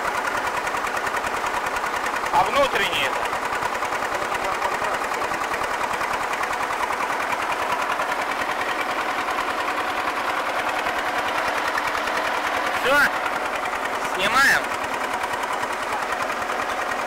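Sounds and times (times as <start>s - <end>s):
diesel engine clattering: 0.0s - 17.0s.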